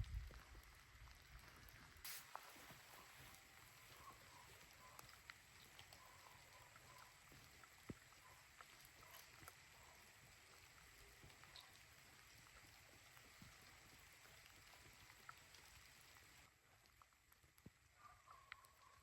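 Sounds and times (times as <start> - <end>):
faint rain: 0.0 - 19.0.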